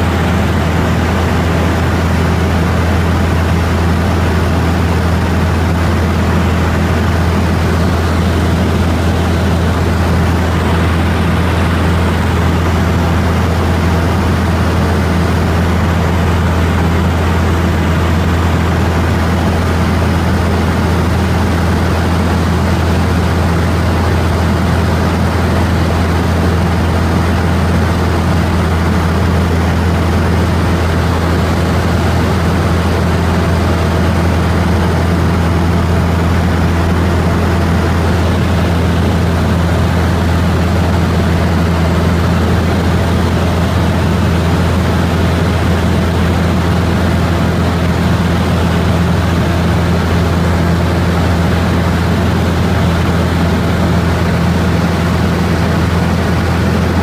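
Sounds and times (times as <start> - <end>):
aircraft cabin engine drone: 0.0 - 57.0.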